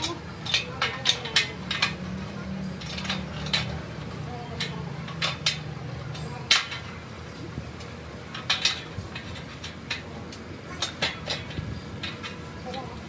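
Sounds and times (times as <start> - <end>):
metal brackets clanking on steel: 0.0 - 13.0.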